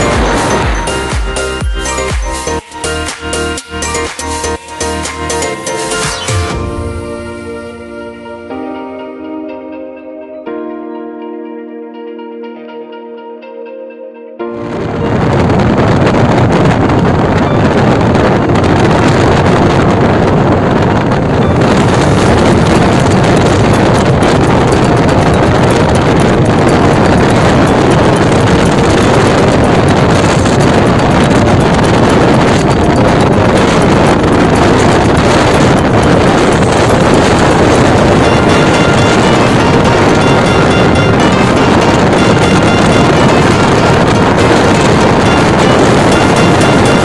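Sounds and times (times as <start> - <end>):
wind rush on microphone: 0.0 - 7.9, 14.5 - 47.0.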